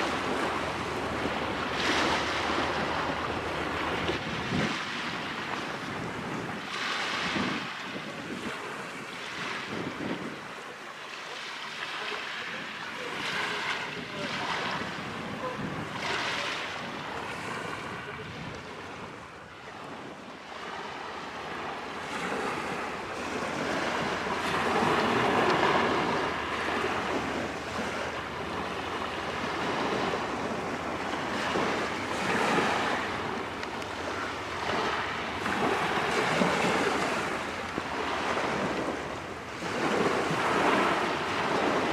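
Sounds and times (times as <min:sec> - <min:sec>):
wind buffeting microphone: 0:00.0 - 0:10.9, 0:12.6 - 0:41.9
small waves washing onto shore: 0:00.0 - 0:41.9.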